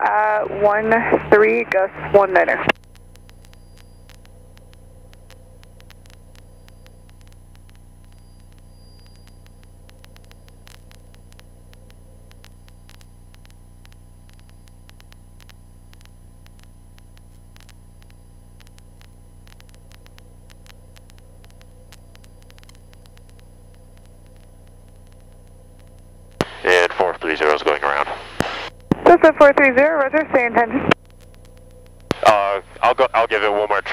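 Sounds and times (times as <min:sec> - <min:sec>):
aircraft cabin drone: 0:00.0 - 0:13.5, 0:18.0 - 0:33.9
static crackling clicks: 0:00.0 - 0:33.9.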